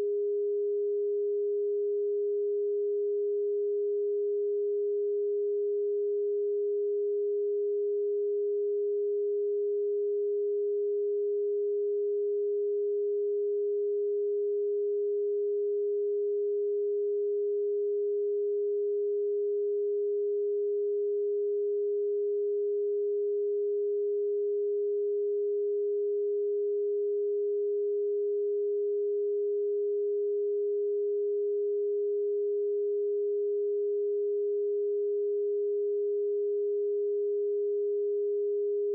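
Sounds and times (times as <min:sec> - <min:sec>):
steady sine-wave tone: 0:00.0 - 0:38.9.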